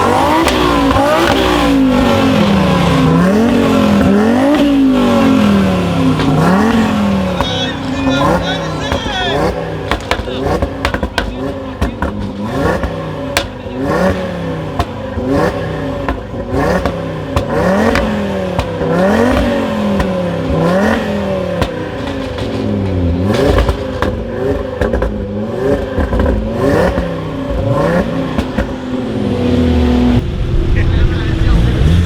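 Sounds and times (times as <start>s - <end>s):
car engine revving: 0.0s - 32.0s
exhaust cracks: 0.0s - 32.0s.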